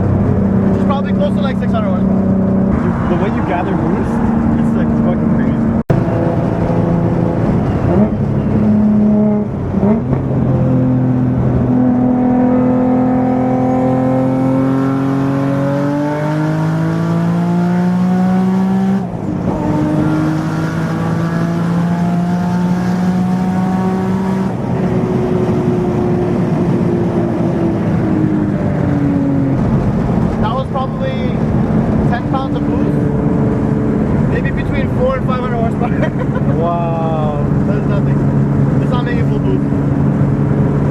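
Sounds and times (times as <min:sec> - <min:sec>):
turbocharged car engine accelerating: 0:00.0 - 0:40.9.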